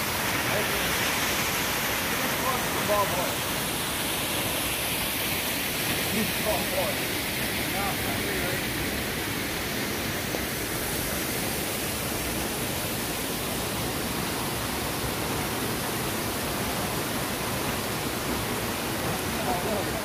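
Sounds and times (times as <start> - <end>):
stream water rushing over rocks: 0.0 - 20.0.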